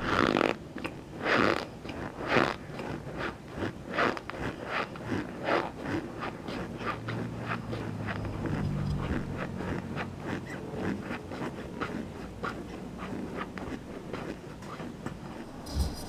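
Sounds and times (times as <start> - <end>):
chewing crunches: 0.0 - 15.8.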